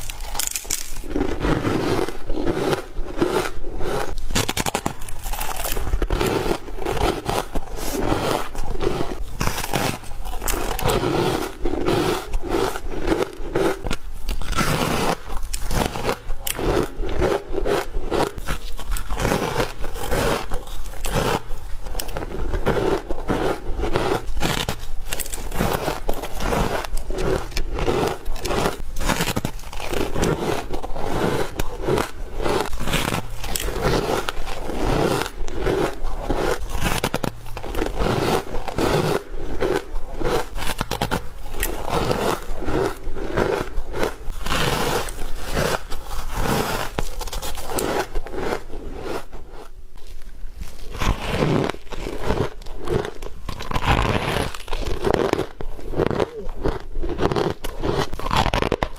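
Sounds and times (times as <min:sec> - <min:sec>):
ice being chewed: 0:00.0 - 0:58.9.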